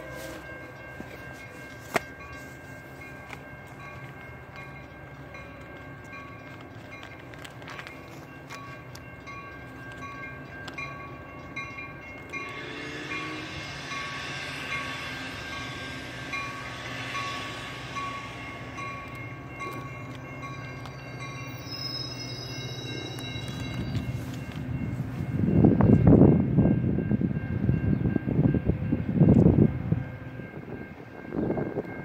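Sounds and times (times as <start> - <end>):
train bell ringing: 0.0 - 32.0.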